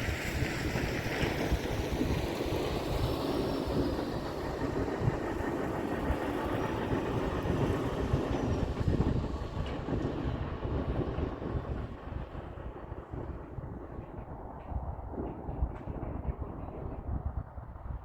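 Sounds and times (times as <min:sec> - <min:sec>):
diesel truck engine rumble: 0:00.0 - 0:17.3
wind noise on microphone: 0:00.0 - 0:18.0.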